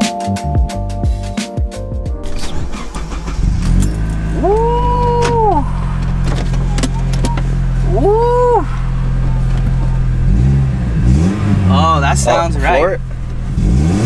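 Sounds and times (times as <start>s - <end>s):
car engine idling: 2.2s - 14.0s.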